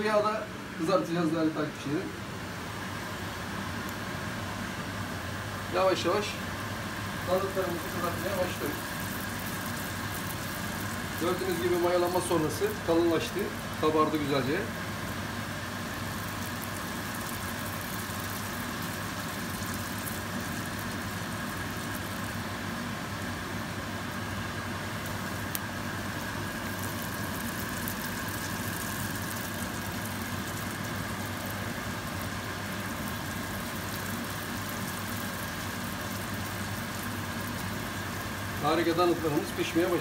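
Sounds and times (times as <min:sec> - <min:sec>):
steady low hum: 0:00.0 - 0:40.0
dough sizzling in hot oil: 0:02.6 - 0:40.0.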